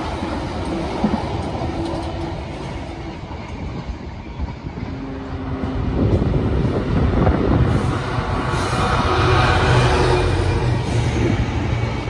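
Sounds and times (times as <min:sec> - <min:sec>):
freight wagons rolling on rails: 0:00.0 - 0:12.0.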